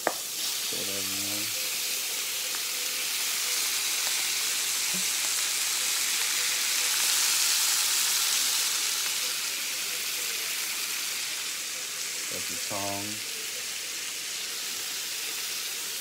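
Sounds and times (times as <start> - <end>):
shrimp sizzling in a frying pan: 0.0 - 16.0.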